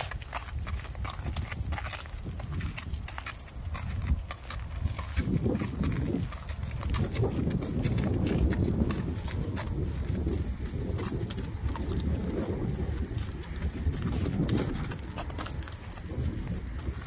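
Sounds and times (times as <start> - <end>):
hooves clopping on gravel: 0.0 - 17.0.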